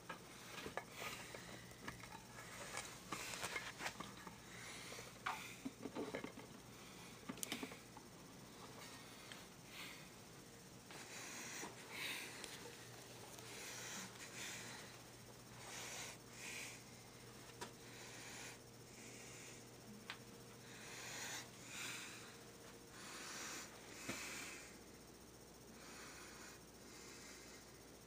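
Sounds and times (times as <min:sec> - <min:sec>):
faint breathing: 0:00.0 - 0:28.0.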